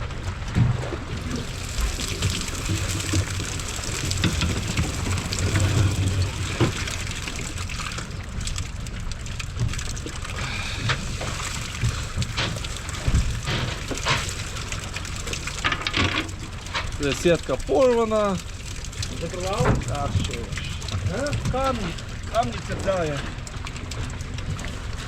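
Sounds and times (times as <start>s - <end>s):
water splashing and dripping: 0.1s - 25.0s.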